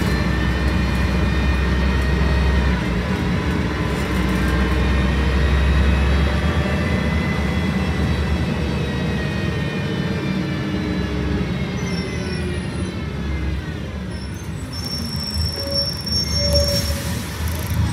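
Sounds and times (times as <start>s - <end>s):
bus drivetrain whine: 0.0s - 17.9s
bus engine rumbling: 0.0s - 17.9s.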